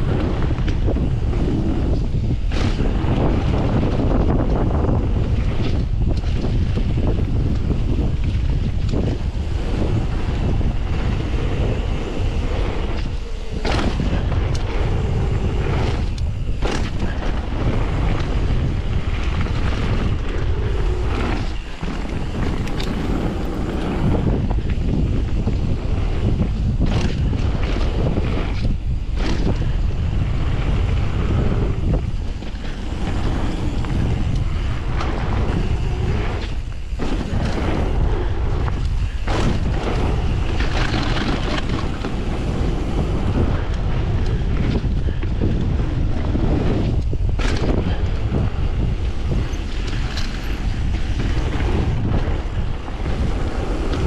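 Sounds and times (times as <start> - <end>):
bike rattling: 0.0 - 54.0
tyres rolling on gravel: 0.0 - 54.0
wind rushing over microphone: 0.0 - 54.0.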